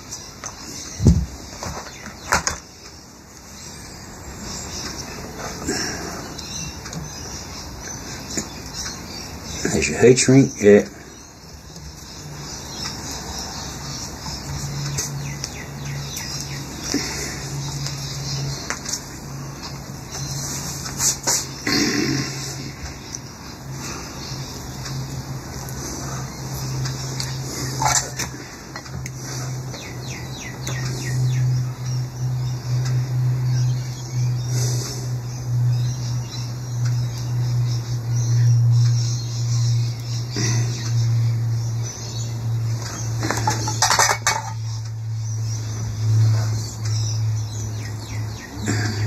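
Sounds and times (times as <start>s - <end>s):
bird chirping: 0.0s - 49.0s
steady low hum: 0.0s - 49.0s.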